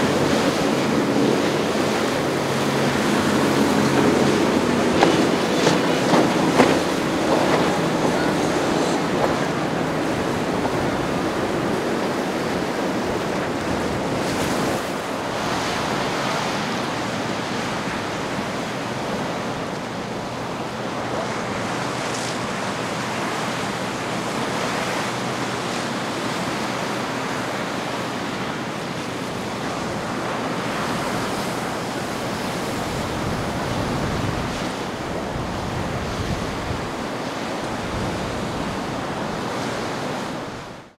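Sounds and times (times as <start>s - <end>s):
ocean waves and surf: 0.0s - 40.9s
wind buffeting microphone: 0.0s - 40.9s.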